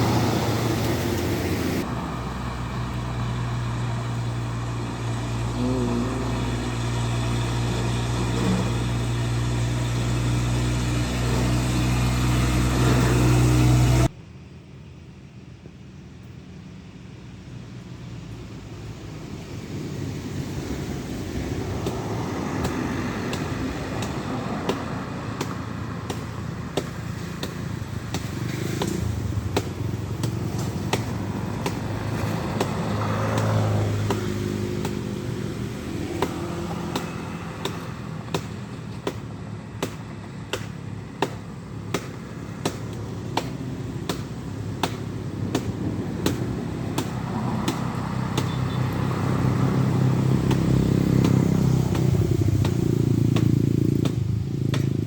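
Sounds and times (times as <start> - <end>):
truck diesel engines labouring: 0.0 - 14.2, 16.4 - 55.0.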